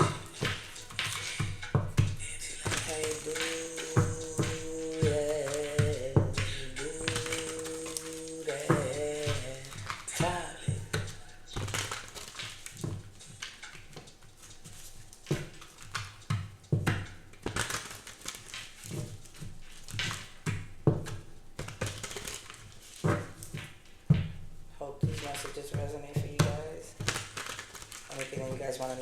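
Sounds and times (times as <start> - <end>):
irregular knocks and clicks: 0.0 - 29.0.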